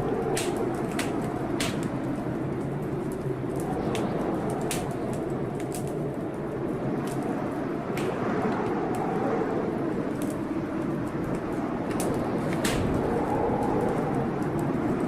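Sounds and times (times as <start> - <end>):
blizzard wind rushing: 0.0 - 15.0
wood fire crackling: 0.0 - 15.0.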